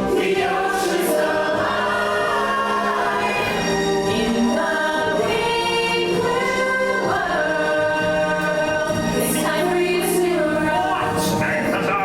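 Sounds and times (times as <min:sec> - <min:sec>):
choir singing wordless chords: 0:00.0 - 0:11.6.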